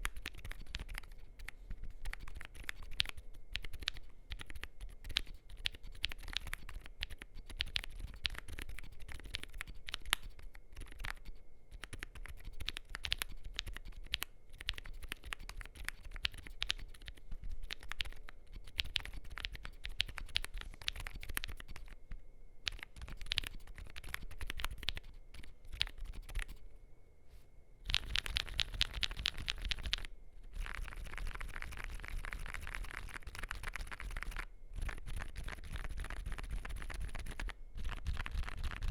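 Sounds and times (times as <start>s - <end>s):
muted keyboard keystrokes: 0.0s - 22.0s, 22.7s - 26.6s, 27.9s - 38.9s.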